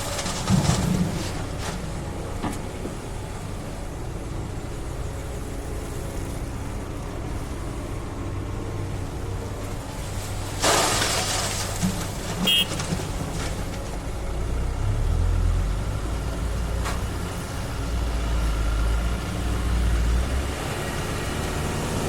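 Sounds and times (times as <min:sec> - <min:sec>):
diesel excavator engine running: 0:00.0 - 0:22.0.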